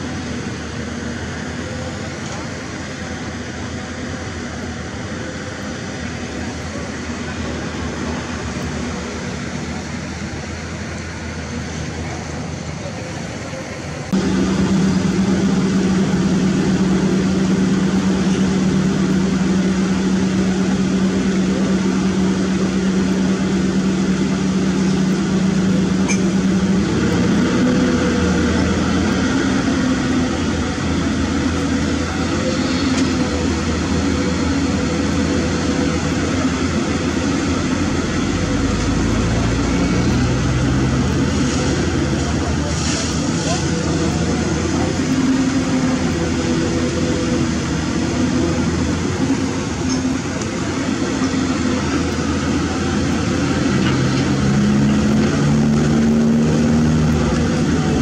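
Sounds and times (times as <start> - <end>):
excavator diesel engines humming: 0.0 - 58.0.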